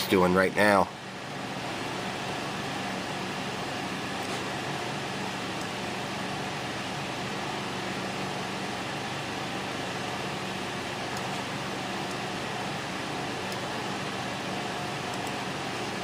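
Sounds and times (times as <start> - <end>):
fan hiss and hum: 0.0 - 16.0.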